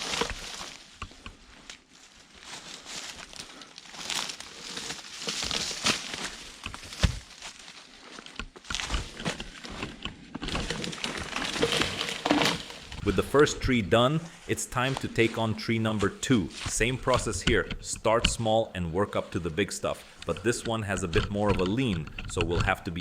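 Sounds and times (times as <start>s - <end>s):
branches and leaves rustling: 0.0s - 23.0s.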